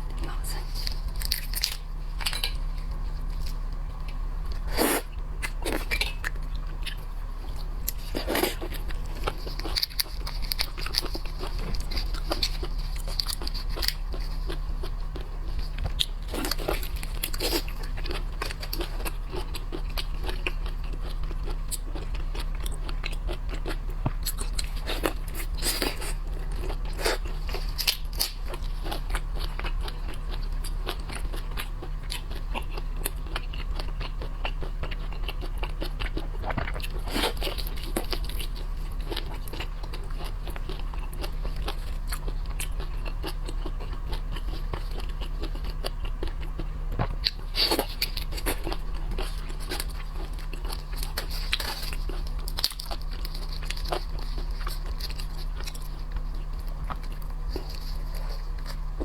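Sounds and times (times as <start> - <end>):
crunching and wet chewing: 0.0 - 59.0
steady low hum: 0.0 - 59.0.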